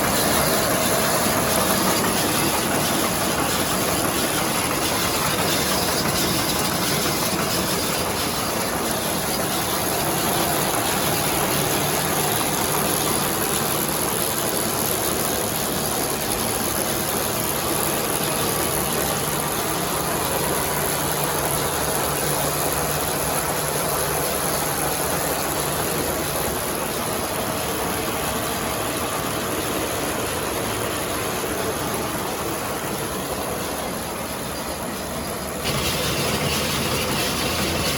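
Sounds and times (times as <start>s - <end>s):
round baler machinery turning: 0.0s - 37.9s
tractor engine running: 0.0s - 37.9s.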